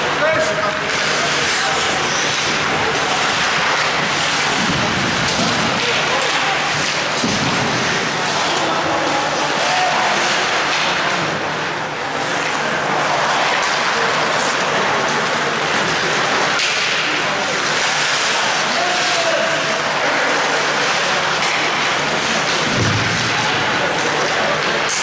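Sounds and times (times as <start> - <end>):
skate blades scraping ice: 0.2 - 11.3, 12.2 - 25.0.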